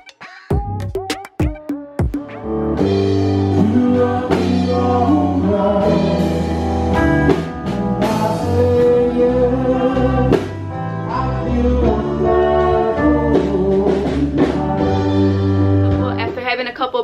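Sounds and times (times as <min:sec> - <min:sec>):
person singing: 0:00.0 - 0:16.4
drum kit: 0:00.0 - 0:16.6
guitars: 0:00.0 - 0:17.0.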